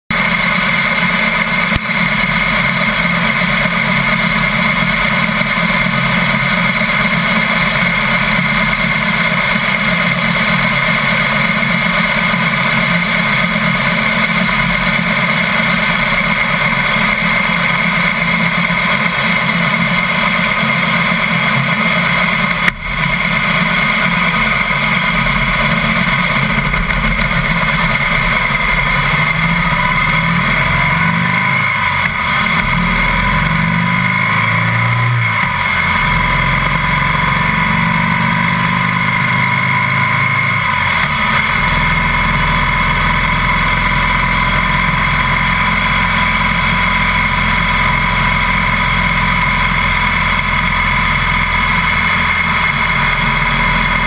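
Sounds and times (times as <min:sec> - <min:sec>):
motorcycle engine idling: 0:00.1 - 0:54.0.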